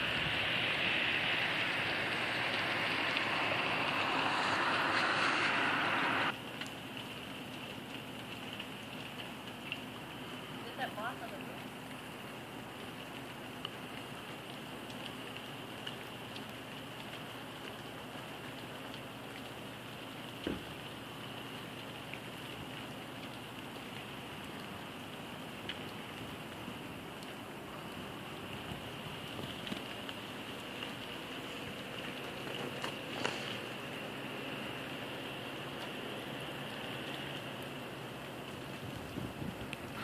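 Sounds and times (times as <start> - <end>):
light rain falling: 0.0 - 40.0
outdoor background hiss: 0.0 - 40.0.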